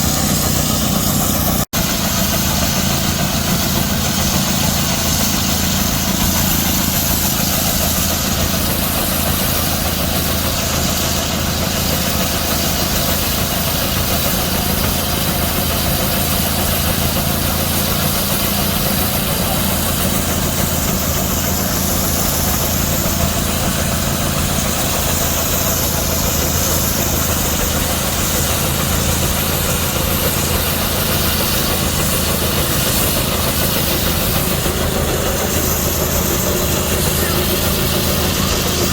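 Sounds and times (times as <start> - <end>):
steam engine low drone: 0.0 - 38.9
steam hiss: 0.0 - 38.9.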